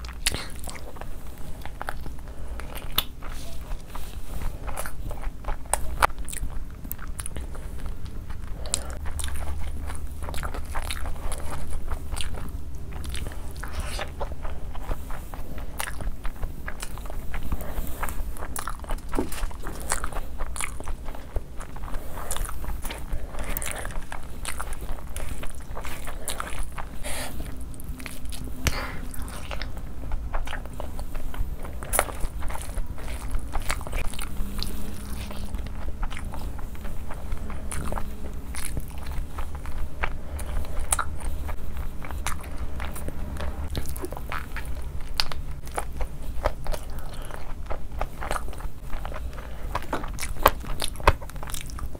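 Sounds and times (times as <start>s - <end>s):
low steady hum: 0.0s - 51.9s
person chewing food: 0.0s - 51.9s.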